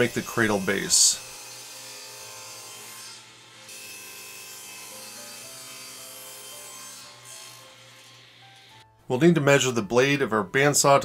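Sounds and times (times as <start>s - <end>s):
table saw cutting wood: 0.0s - 8.9s.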